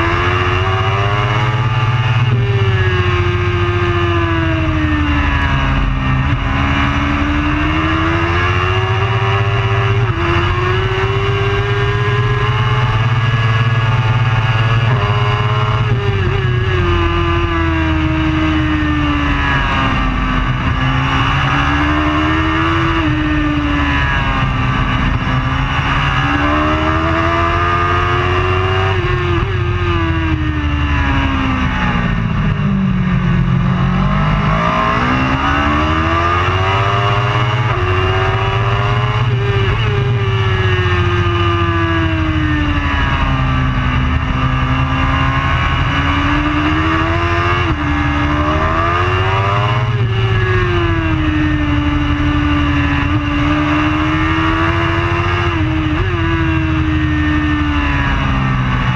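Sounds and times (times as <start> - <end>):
motorcycle engine at full throttle: 0.0 - 58.9.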